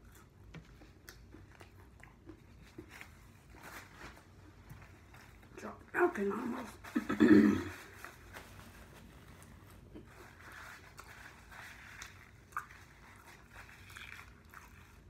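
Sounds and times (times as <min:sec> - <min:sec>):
quiet chewing: 0:00.0 - 0:05.6, 0:07.7 - 0:15.0.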